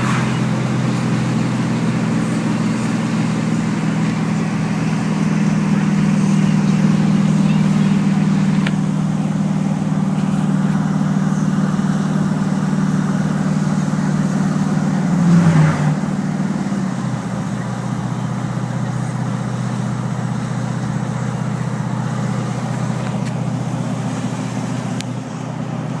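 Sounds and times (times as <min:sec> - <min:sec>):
diesel engine exhaust braking: 0:00.0 - 0:26.0.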